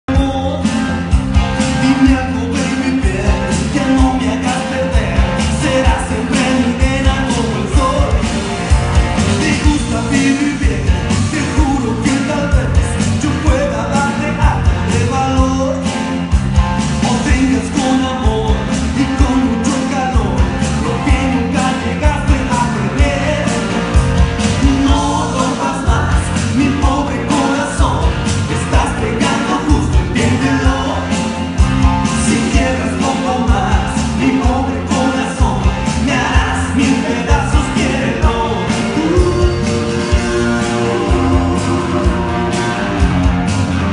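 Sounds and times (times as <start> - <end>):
song with heavy bass beat: 0.0 - 43.9.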